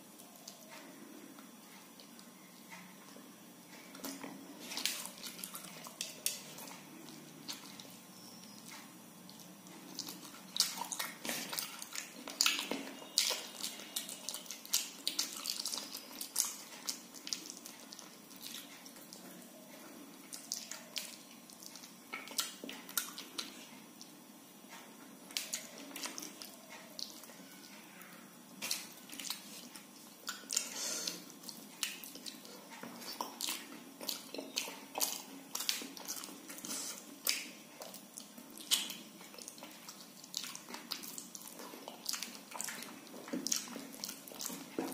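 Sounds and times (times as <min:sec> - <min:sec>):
wet chewing: 0:03.9 - 0:24.1, 0:25.2 - 0:44.9.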